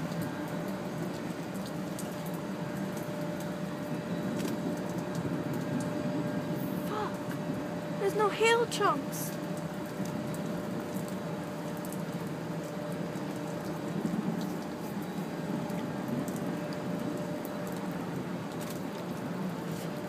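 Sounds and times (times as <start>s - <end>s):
faint steady hum: 0.0s - 20.0s
steady rain falling: 0.0s - 20.0s.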